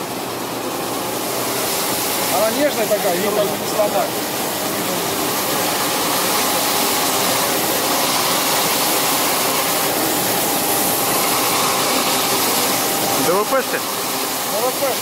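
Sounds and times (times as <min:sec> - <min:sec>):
sanding machine rushing hiss: 0:01.4 - 0:15.0.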